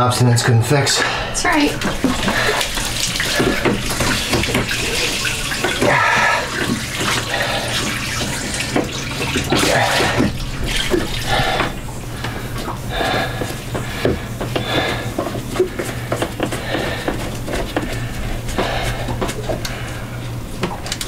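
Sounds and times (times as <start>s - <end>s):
water gushing and splashing: 1.5s - 19.9s.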